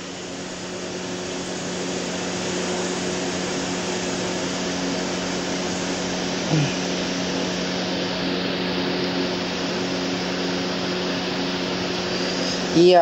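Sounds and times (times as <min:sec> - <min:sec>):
fan hum and hiss: 0:00.0 - 0:13.0.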